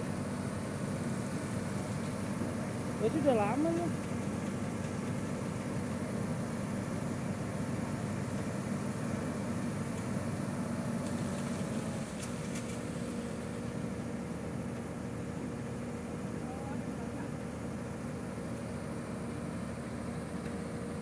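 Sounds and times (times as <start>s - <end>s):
excavator diesel engine idling: 0.0s - 21.0s.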